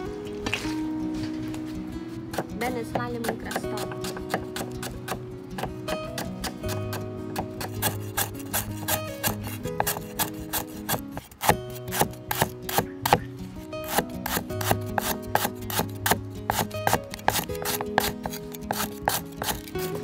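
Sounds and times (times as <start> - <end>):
cleaver chopping on wooden board: 2.3 - 19.7.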